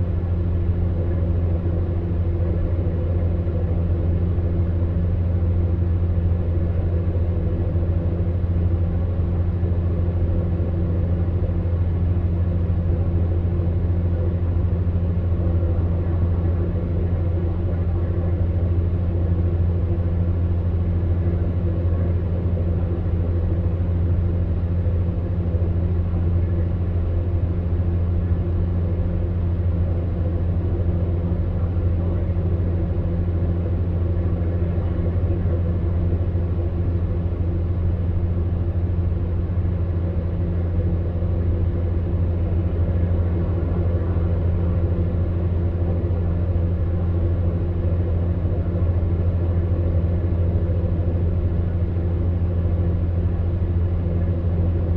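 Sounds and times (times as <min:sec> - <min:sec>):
fan heater motor hum: 0:00.0 - 0:54.9.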